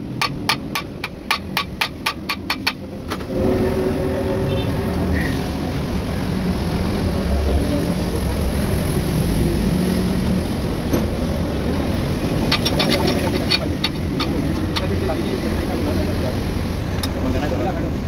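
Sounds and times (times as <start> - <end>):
low vehicle rumble: 2.7 - 17.4.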